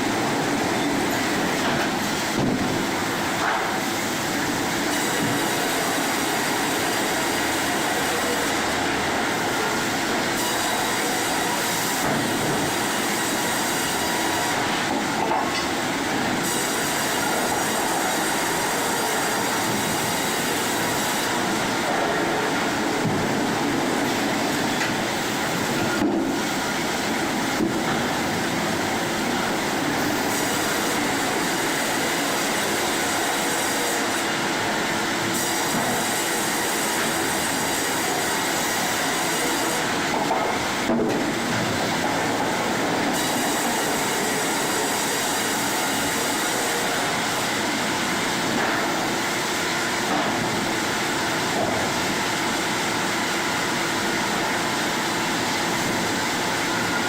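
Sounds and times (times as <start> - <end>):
sawmill machinery clatter: 0.0 - 57.0.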